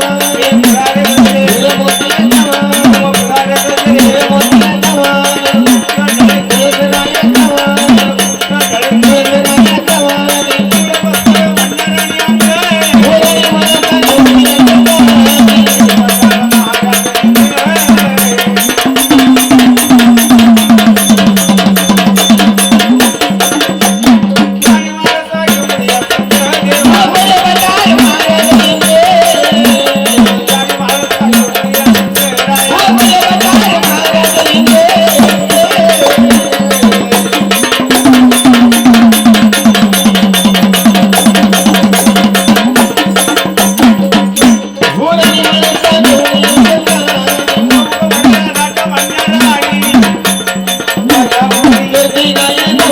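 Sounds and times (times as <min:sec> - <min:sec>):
person singing: 0:00.0 - 0:21.0, 0:21.7 - 0:52.9
hand drums beating: 0:00.0 - 0:52.9.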